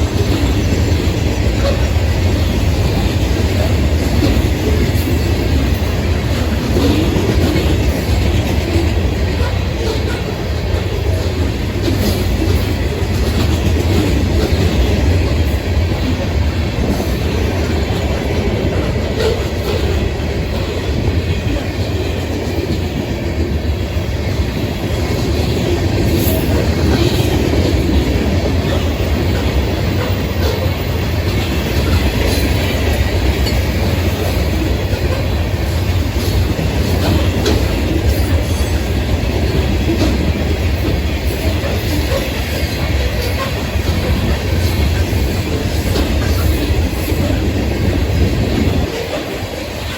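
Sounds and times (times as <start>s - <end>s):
freight train cars rolling past: 0.0s - 49.9s
wheels clacking over rails: 0.0s - 49.9s.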